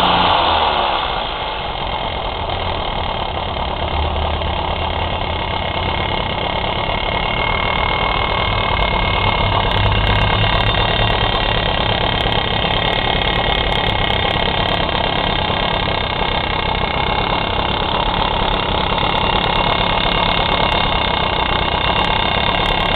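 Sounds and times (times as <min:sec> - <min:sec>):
high-pitched whine: 0:00.0 - 0:19.1
moped engine running: 0:00.0 - 0:22.9.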